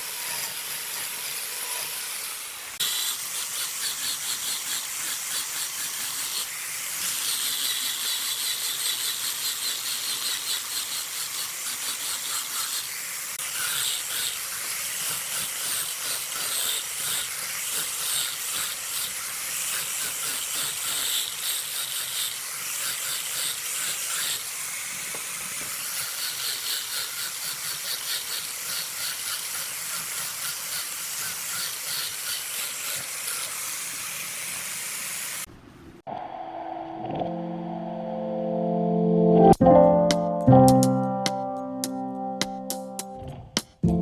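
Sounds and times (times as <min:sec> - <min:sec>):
wood lathe tool hissing: 0:00.0 - 0:35.5.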